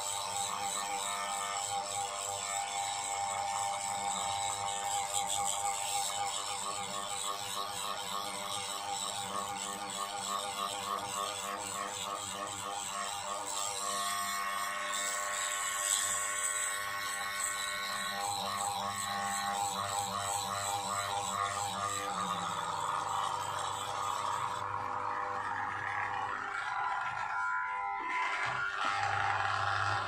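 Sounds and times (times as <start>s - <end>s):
micro drill grinding chip: 0.0s - 30.0s.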